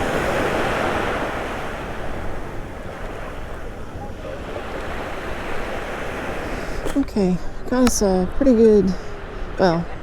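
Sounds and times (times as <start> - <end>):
ocean surf washing up beach: 0.0 - 10.0
wind buffeting microphone: 0.0 - 10.0.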